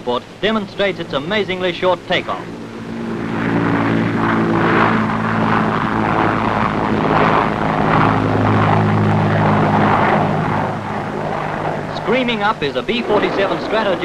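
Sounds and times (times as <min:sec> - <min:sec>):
turboprop engines droning: 0:00.0 - 0:14.0.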